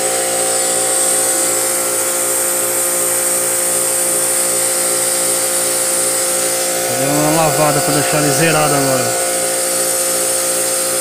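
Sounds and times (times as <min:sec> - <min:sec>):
pressure washer motor whine: 0:00.0 - 0:11.0.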